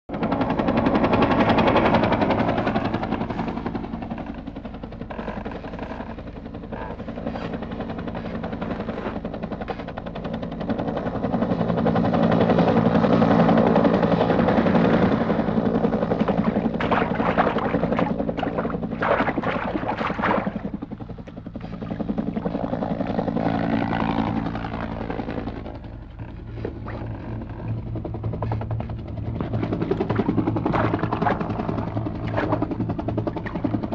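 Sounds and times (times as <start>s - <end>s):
helicopter rotor beating: 0.1s - 33.9s.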